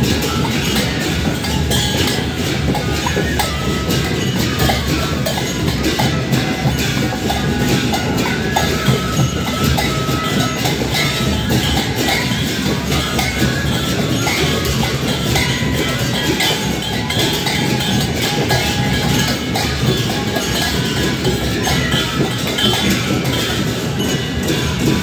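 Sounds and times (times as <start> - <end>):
procession drums and cymbals: 0.0 - 25.0.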